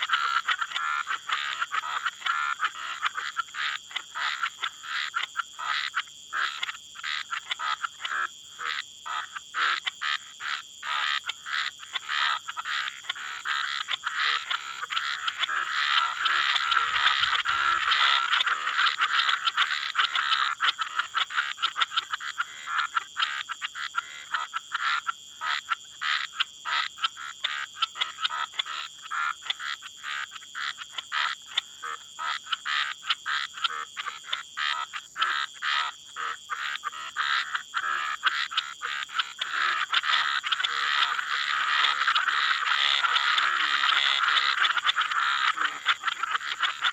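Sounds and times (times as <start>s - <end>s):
frog and toad chorus: 0.0s - 46.9s.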